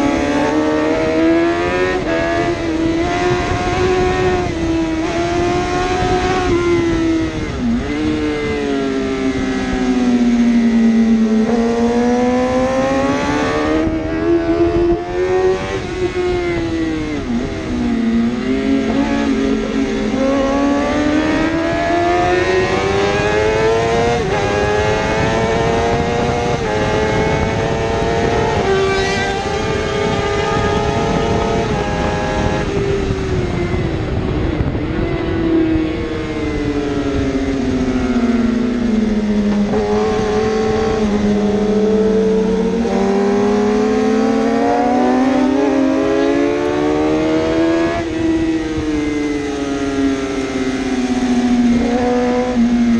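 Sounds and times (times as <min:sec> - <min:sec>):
motorbike engine revving with upshifts: 0:00.0 - 0:52.9.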